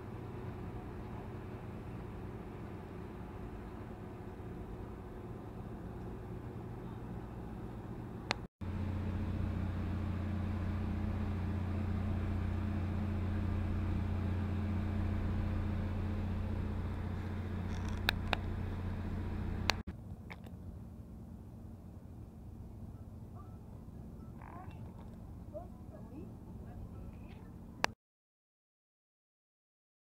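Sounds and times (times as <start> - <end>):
low engine hum: 0.0 - 28.0.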